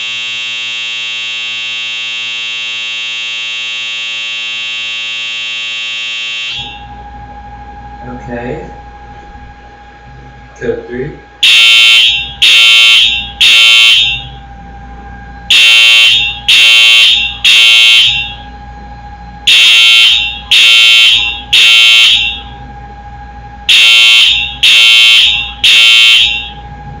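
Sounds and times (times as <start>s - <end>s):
fire alarm horn blasts: 0.0s - 9.9s, 11.3s - 27.0s
faint steady hum: 0.0s - 27.0s.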